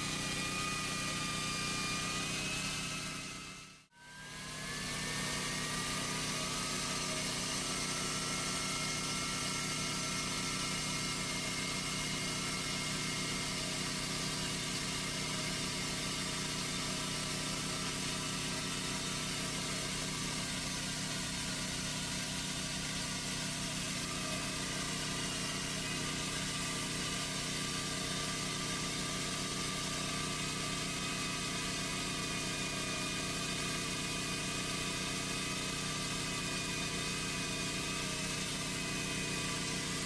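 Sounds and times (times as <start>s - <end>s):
small engine idling: 0.0s - 40.0s.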